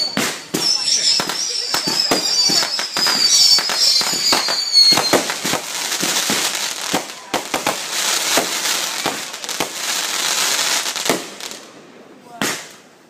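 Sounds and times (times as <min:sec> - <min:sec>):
high fireworks whistles: 0:00.0 - 0:11.7
fireworks hiss: 0:00.0 - 0:12.8
fireworks bangs and crackles: 0:00.0 - 0:13.0.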